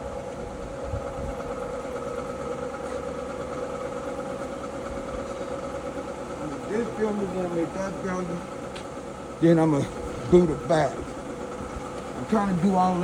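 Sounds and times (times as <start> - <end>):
electric polisher motor whine: 0.0 - 13.0.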